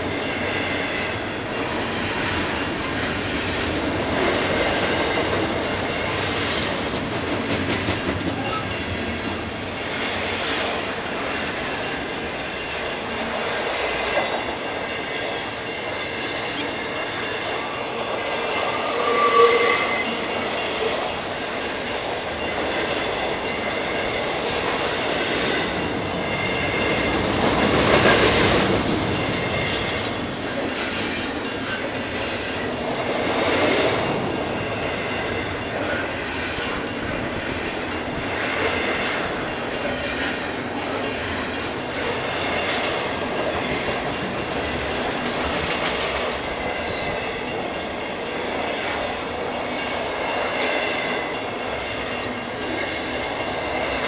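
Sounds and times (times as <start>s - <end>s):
freight train wheels on rail: 0.0s - 54.0s
train wheel squeal: 0.0s - 54.0s.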